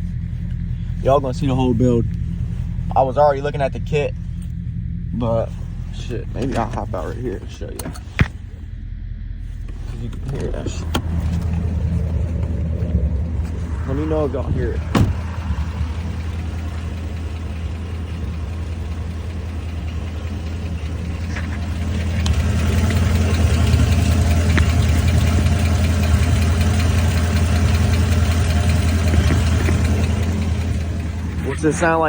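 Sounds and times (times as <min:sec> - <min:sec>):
car engine idling: 0:00.0 - 0:32.0
fast engine ticking: 0:00.0 - 0:32.0.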